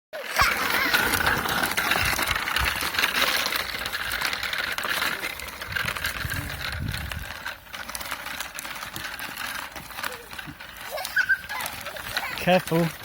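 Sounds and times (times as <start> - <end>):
bicycle freewheel ticking: 0.2 - 13.0.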